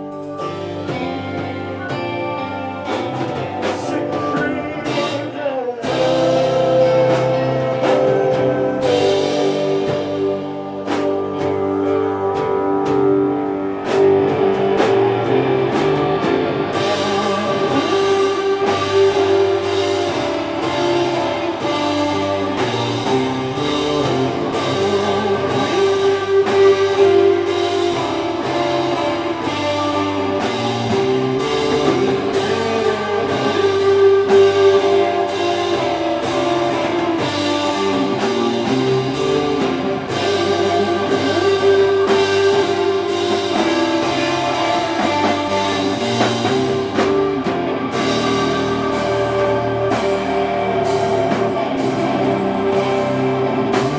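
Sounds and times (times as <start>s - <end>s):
drums and cymbals beat: 0.0s - 53.9s
electric guitars: 0.0s - 53.9s
keyboard sustained notes: 0.0s - 53.9s.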